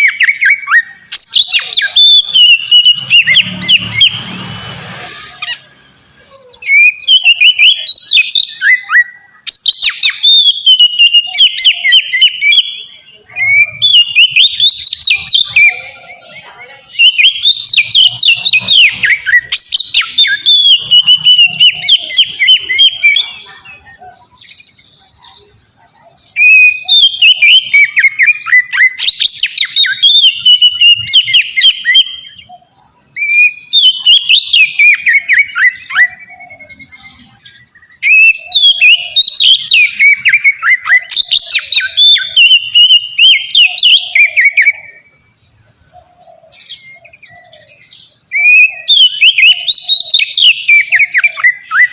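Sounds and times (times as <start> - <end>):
bird singing whistled song: 0.0 - 4.4, 5.1 - 51.9.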